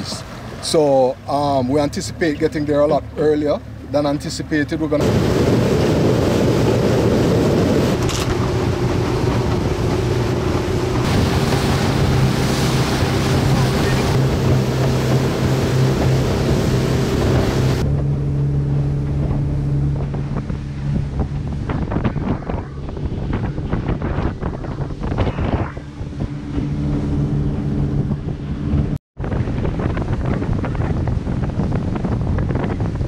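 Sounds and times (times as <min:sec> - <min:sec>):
outboard motor drone: 0:00.0 - 0:33.0
water rushing from a wake: 0:00.0 - 0:33.0
wind on the microphone: 0:05.0 - 0:33.0.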